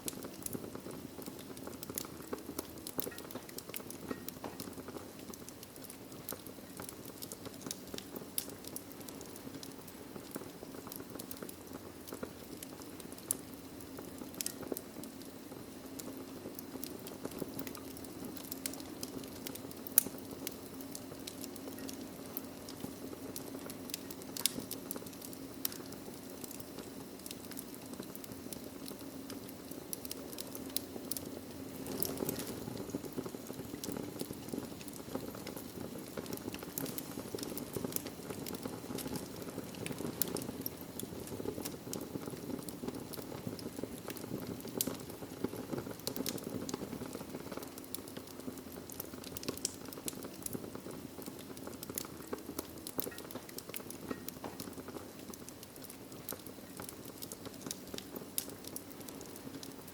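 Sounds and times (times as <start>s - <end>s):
fire burning rush: 0.0s - 59.9s
fire popping and snapping: 0.0s - 59.9s.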